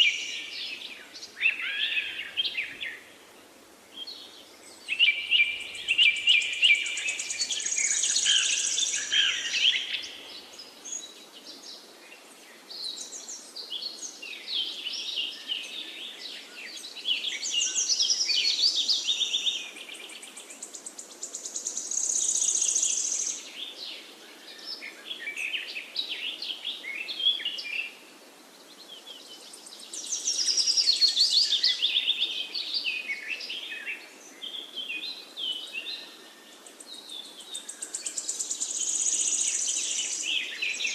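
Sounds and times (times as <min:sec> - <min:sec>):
faint background hiss: 0:00.0 - 0:40.9
songbirds chirping: 0:00.0 - 0:40.9.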